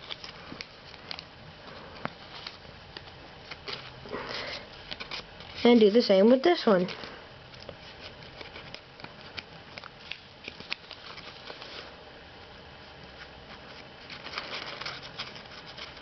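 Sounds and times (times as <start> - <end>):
paper clicks and crackles: 0.0 - 5.8, 6.8 - 11.8, 13.5 - 16.0
paper rustling and crinkling: 0.0 - 12.0, 13.1 - 16.0.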